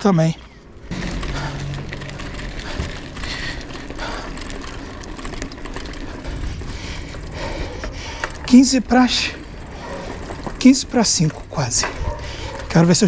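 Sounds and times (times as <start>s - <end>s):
bike rattling over cobblestones: 0.0s - 13.0s
freewheel ticking: 0.7s - 13.0s.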